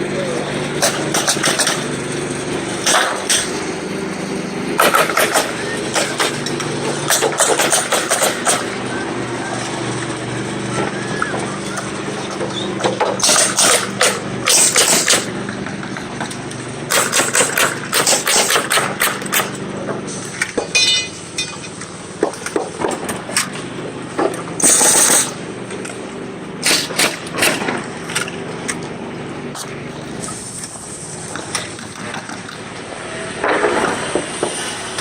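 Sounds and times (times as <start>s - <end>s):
steady engine hum: 0.0s - 35.0s.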